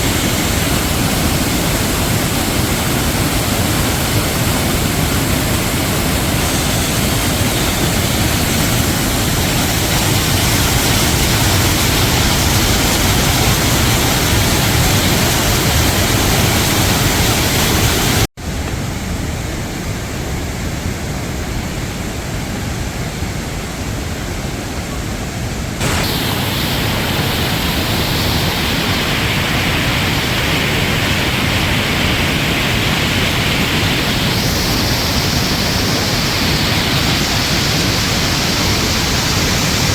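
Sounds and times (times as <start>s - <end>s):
waterfall rushing: 0.0s - 18.3s, 25.6s - 39.9s.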